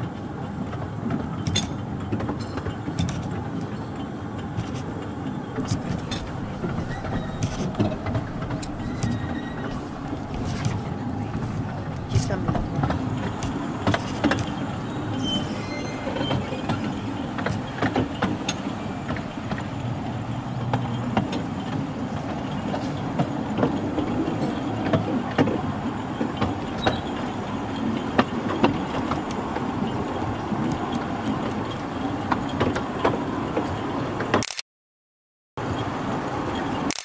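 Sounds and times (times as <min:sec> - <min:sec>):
rail joint clicks and knocks: 0:00.0 - 0:34.4
wheels rumbling on rail: 0:00.0 - 0:34.4, 0:35.6 - 0:37.0.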